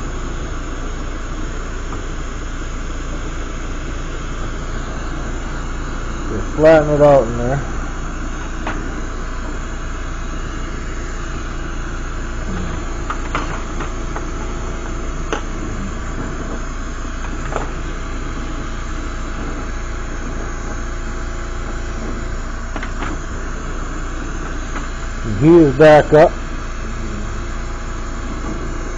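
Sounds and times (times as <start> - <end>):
torch flame hissing: 0.0 - 28.9.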